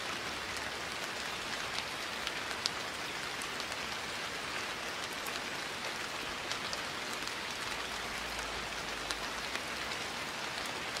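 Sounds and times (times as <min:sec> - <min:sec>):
raindrops ticking: 0:00.0 - 0:11.0
steady rain falling: 0:00.0 - 0:11.0.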